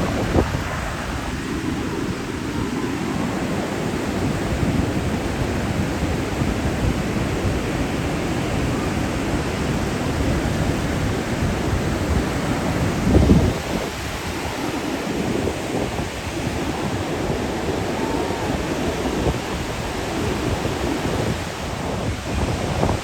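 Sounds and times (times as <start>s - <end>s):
ocean surf on a beach: 0.0s - 23.0s
wind rumble on microphone: 0.0s - 23.0s.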